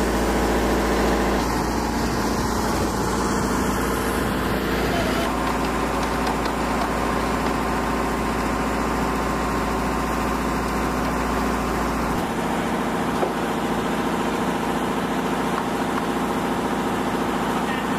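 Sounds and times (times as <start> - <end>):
engine hum: 0.0 - 17.9.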